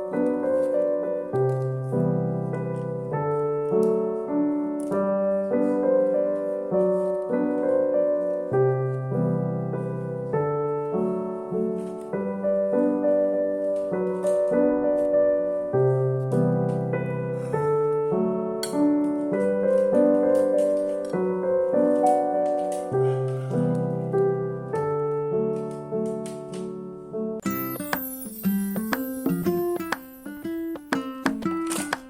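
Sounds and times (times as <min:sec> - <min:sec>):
soft piano piece: 0:00.0 - 0:32.0.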